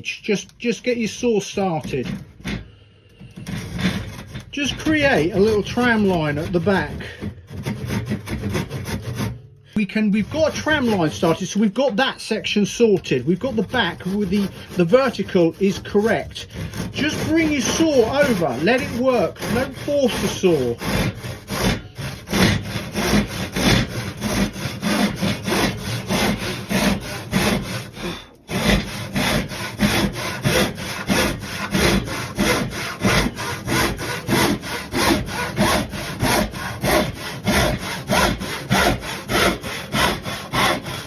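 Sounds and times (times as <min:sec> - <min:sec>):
hand saw cutting wood: 0:00.0 - 0:41.0.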